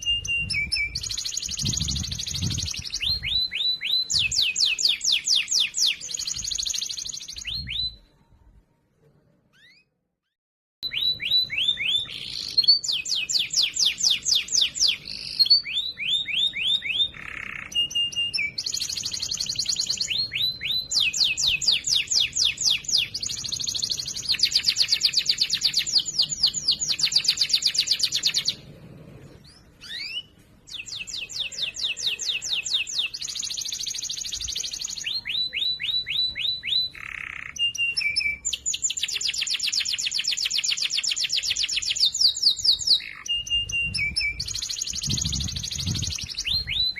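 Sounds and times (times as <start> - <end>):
canary singing trills: 0.0 - 8.1, 9.5 - 46.9.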